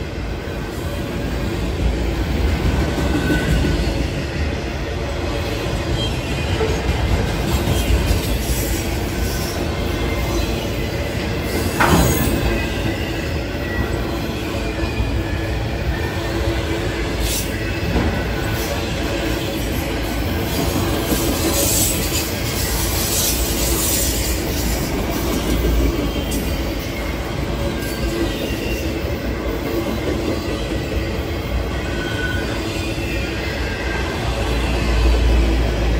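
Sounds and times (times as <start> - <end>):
steel wheels rumbling on rail: 0.0 - 35.9.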